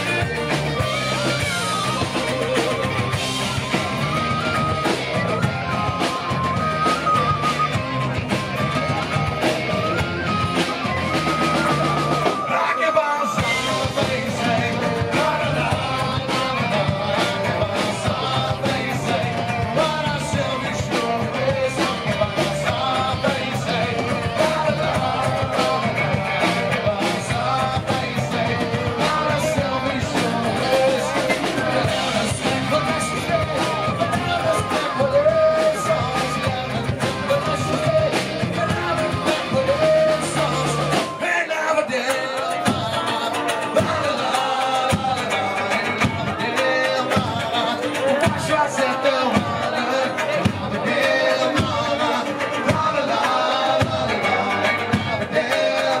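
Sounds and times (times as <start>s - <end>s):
bass guitar: 0.0s - 12.6s, 13.3s - 56.0s
drum kit: 0.0s - 12.6s, 13.3s - 56.0s
electric guitar: 0.0s - 56.0s.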